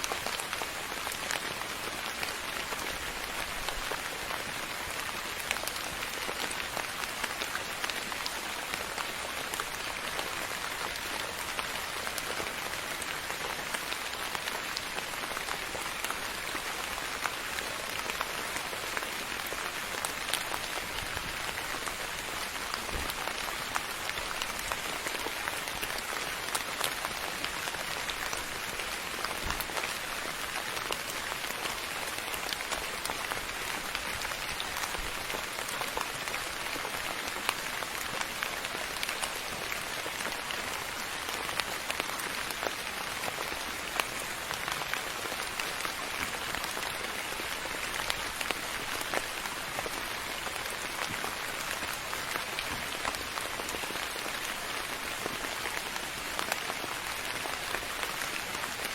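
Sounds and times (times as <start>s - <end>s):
soft rain falling: 0.0s - 58.9s.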